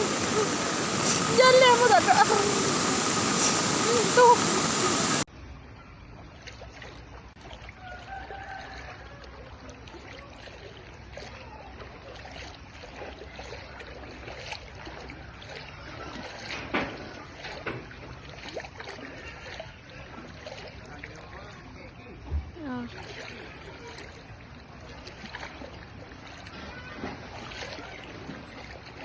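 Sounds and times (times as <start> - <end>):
floodwater rushing: 0.0 - 5.3, 6.1 - 29.0.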